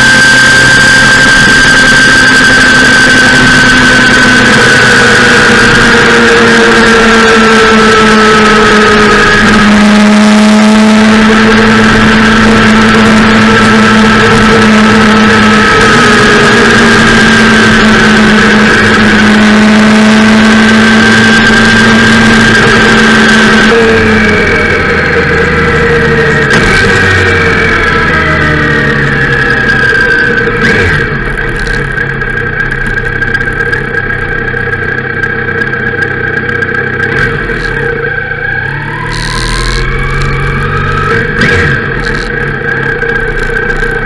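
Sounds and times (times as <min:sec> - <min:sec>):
motorcycle engine running: 0:00.0 - 0:44.0
wind and road noise: 0:00.0 - 0:44.0.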